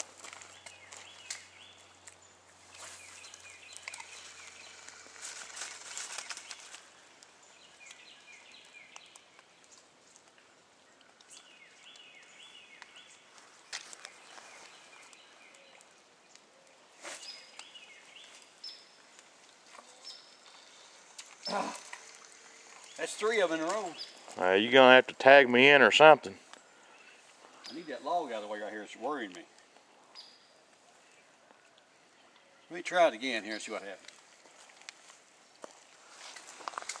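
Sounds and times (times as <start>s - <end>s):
songbird chirping: 0.0s - 37.0s.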